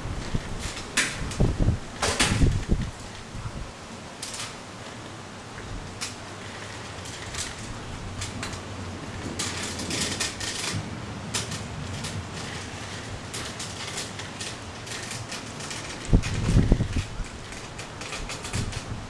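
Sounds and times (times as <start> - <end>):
wind rustling tree leaves: 0.0 - 19.0.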